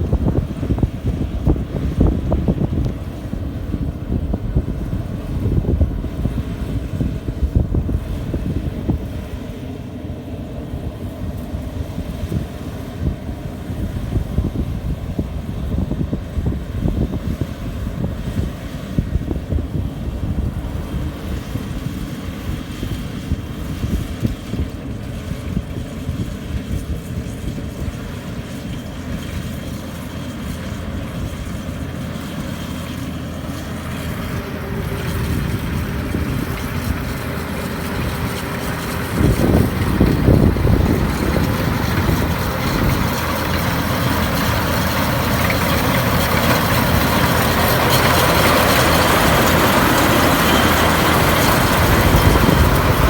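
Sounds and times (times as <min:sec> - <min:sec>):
wind buffeting microphone: 0:00.0 - 0:09.8, 0:10.4 - 0:32.2, 0:33.4 - 0:53.0
combine harvester running: 0:00.0 - 0:53.0.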